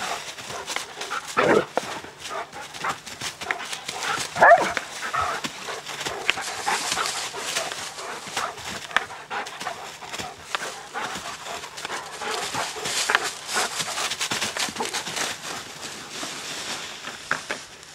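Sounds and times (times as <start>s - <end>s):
dogs barking and yelping: 0.0s - 15.4s
paws scuffling in dry leaves: 0.0s - 17.9s.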